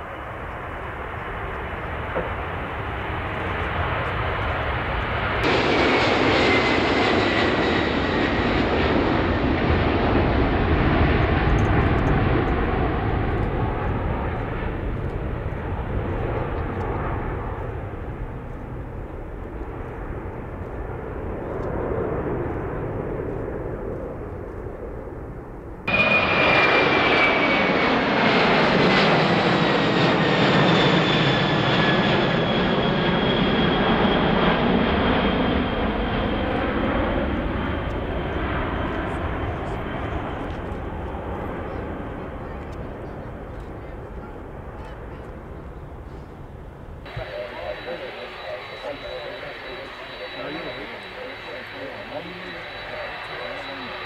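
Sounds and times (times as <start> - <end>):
jet engines at takeoff: 0.0 - 54.0
jet engines passing overhead: 0.0 - 54.0.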